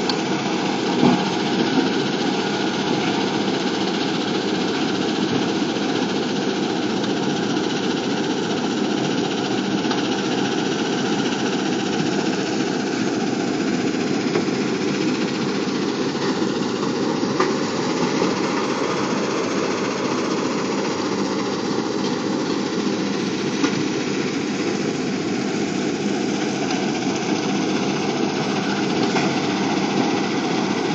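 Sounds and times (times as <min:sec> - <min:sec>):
diesel machinery running: 0:00.0 - 0:30.9.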